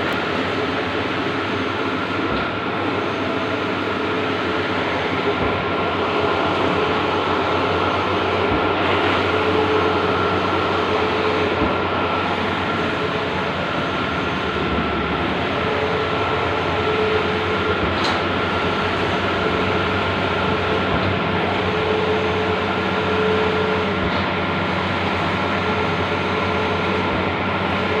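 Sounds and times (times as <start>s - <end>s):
machine whine: 0.0s - 28.0s
printing machine hum: 0.0s - 28.0s.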